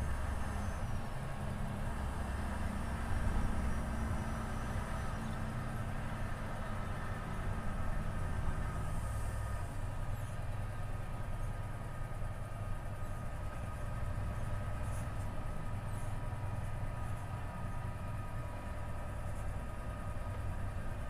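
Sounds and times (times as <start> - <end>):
truck diesel engine hum: 0.0 - 21.0.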